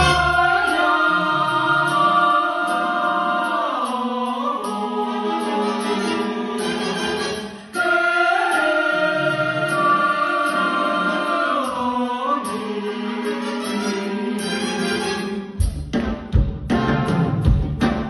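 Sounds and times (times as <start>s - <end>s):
orchestra playing: 0.0s - 3.8s, 4.7s - 11.9s, 12.5s - 18.0s
vocal group singing in harmony: 0.0s - 15.6s.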